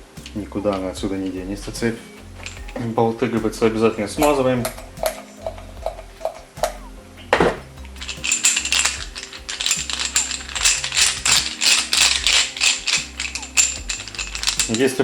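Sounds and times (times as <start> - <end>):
metal bolts clinking: 0.2 - 15.0.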